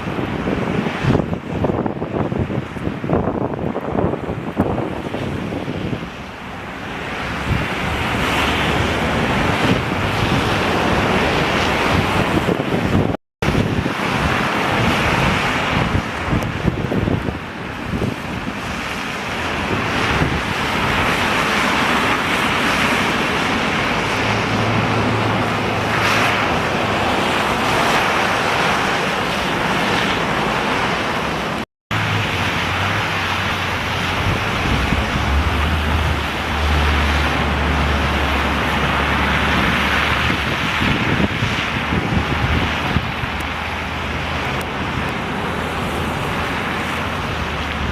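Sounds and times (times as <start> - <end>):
storm wind gusting on microphone: 0.0 - 47.9.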